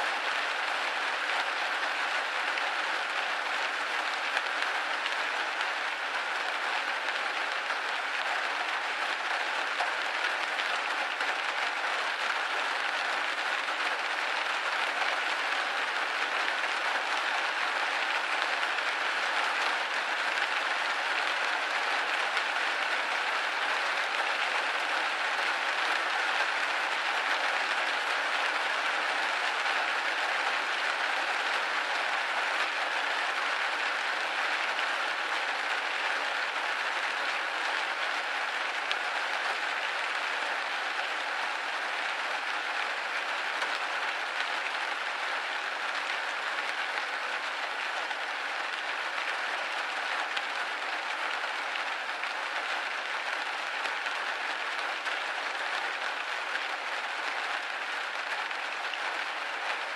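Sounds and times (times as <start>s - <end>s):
rain hitting a window pane: 0.0s - 59.9s.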